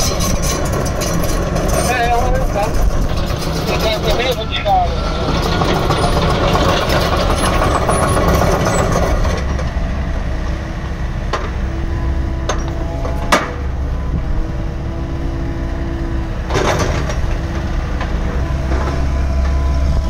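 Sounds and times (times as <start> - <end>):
excavator diesel engine idling: 0.0 - 20.0.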